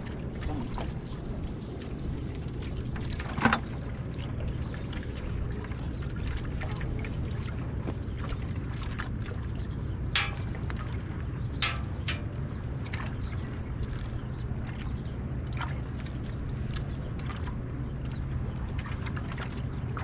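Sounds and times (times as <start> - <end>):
harbour background: 0.0 - 20.0.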